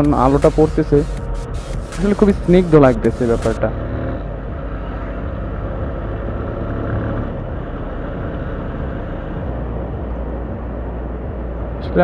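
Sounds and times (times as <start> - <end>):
motorcycle engine running: 0.0 - 11.6
wind and road noise: 0.0 - 12.0.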